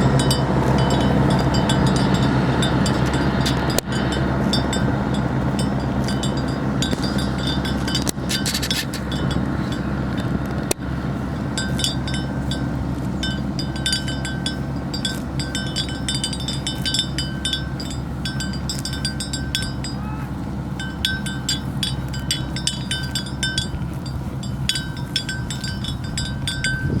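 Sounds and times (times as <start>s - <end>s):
animal bells clanking: 0.0s - 27.0s
steady low rumble: 0.0s - 27.0s.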